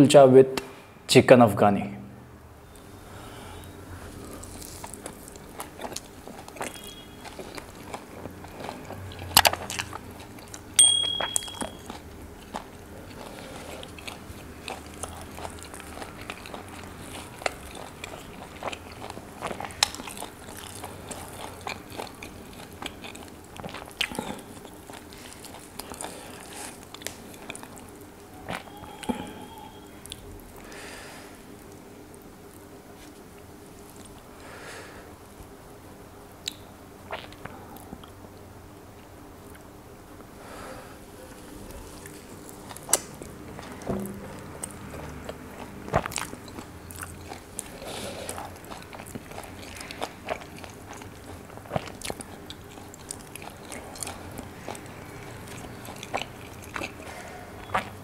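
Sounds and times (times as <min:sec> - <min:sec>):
man chewing food: 0:02.7 - 0:34.5, 0:36.3 - 0:40.4, 0:41.0 - 0:58.0.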